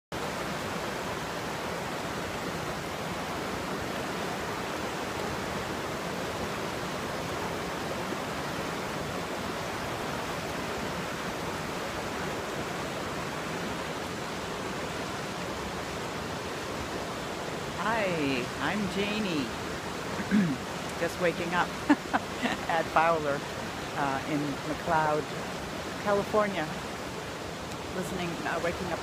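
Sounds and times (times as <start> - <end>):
water rushing over rocks: 0.1 - 29.0.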